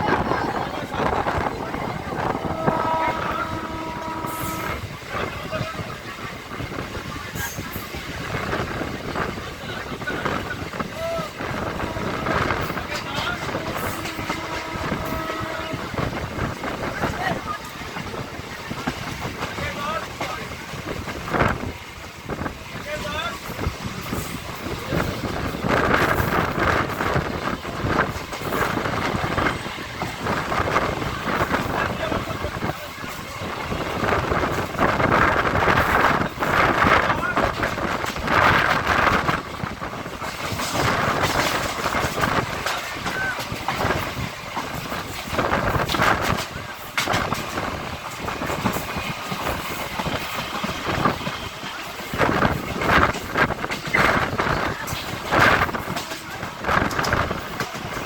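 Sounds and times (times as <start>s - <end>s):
train rumble and rattle: 0.0s - 58.0s
wind buffeting microphone: 0.0s - 58.0s.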